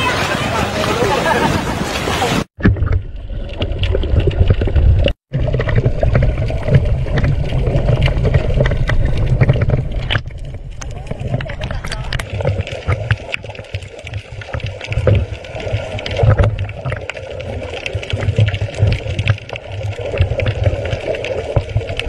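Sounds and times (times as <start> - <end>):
muffled underwater rumble: 2.6 - 22.0.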